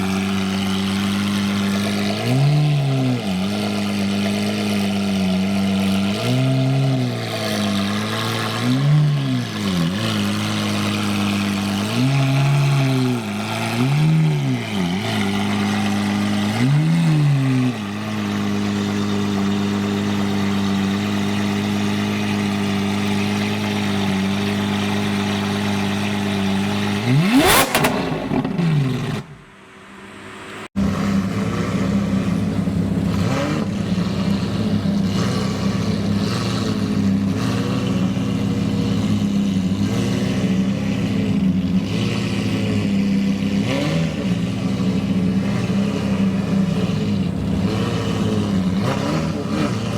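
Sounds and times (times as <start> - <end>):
car engines idling: 0.0 - 49.9
engine throttle blips: 0.0 - 49.9
sharp engine rev: 0.0 - 49.9.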